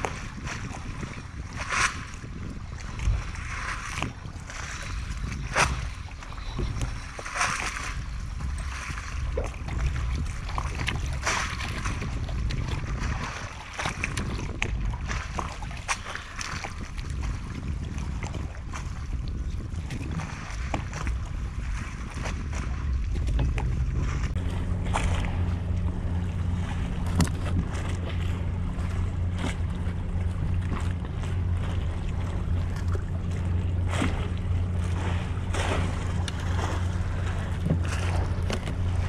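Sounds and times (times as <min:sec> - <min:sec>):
water lapping: 0:00.0 - 0:39.0
water splashes: 0:00.0 - 0:39.0
wind rumbling on microphone: 0:00.0 - 0:39.0.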